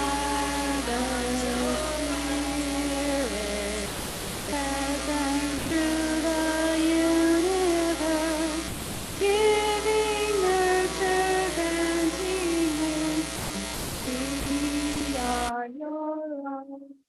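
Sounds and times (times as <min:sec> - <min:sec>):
woman singing a hymn: 0:00.0 - 0:03.9, 0:04.5 - 0:17.0.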